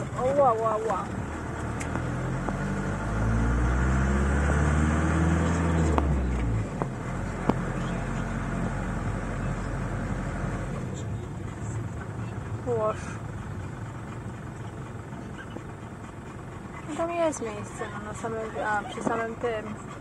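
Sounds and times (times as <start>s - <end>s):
van engine revving: 0.0s - 20.0s.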